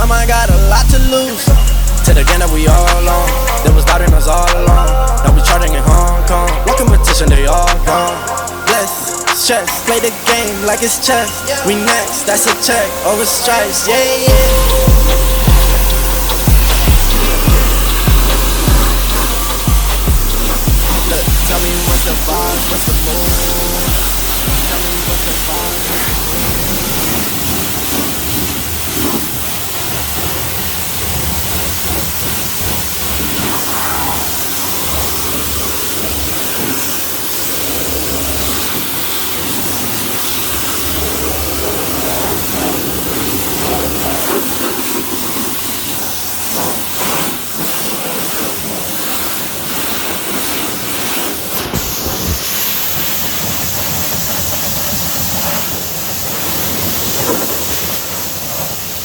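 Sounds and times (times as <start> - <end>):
pressure washer spraying water: 0.0 - 59.0.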